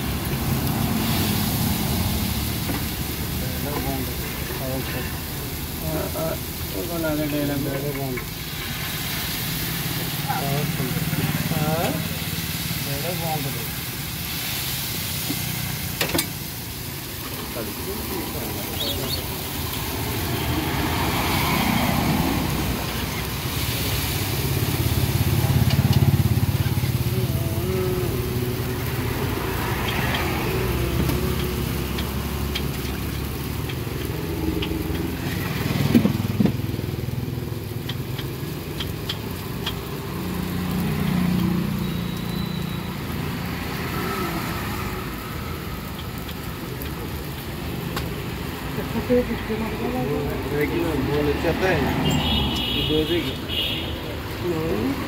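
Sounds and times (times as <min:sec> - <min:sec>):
street traffic with motorcycles: 0:00.0 - 0:55.0.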